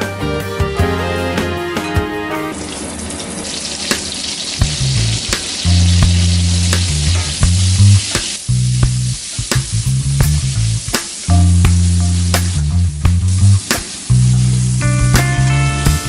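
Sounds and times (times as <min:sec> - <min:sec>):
background music bass notes: 0:00.0 - 0:02.6, 0:04.6 - 0:16.0
food sizzling in a pan: 0:02.5 - 0:16.0.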